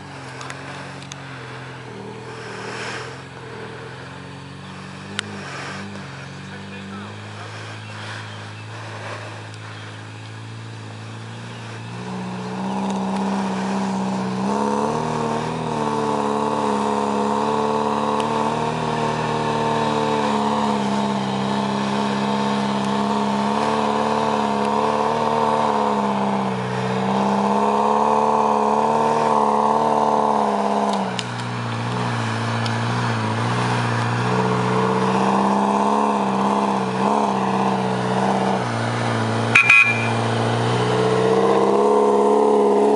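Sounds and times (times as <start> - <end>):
off-road vehicle engine revving: 0.0 - 42.9.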